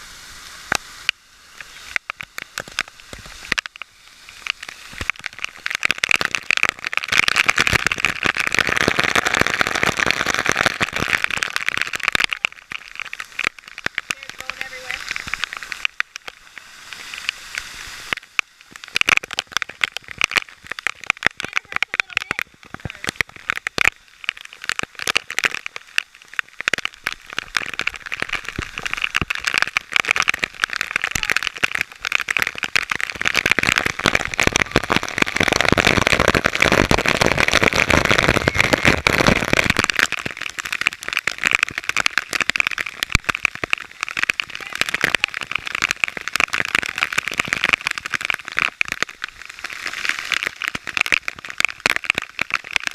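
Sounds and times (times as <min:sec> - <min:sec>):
waterfall roaring: 0:04.3 - 0:16.3, 0:18.7 - 0:52.9.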